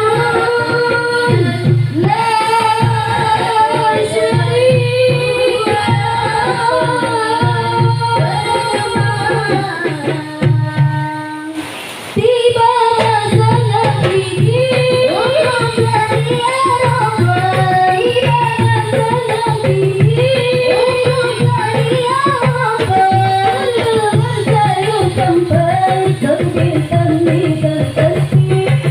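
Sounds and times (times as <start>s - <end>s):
hand drum percussion: 0.0s - 28.9s
voices singing a melody: 0.0s - 28.9s.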